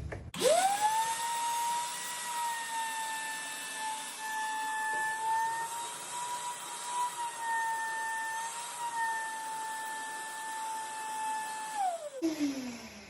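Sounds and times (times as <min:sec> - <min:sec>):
wet dry vacuum whining: 0:00.4 - 0:13.0.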